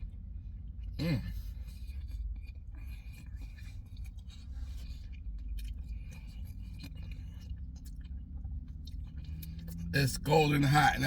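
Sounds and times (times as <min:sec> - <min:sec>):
chewing crusty pretzel: 0:00.1 - 0:10.7.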